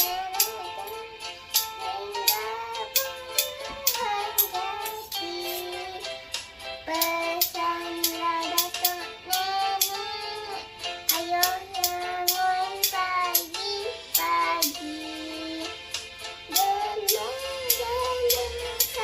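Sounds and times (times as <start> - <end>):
child singing folk song: 0.0 - 6.2, 6.8 - 15.8, 16.5 - 19.0
spoons clicking in steady beat: 0.0 - 19.0.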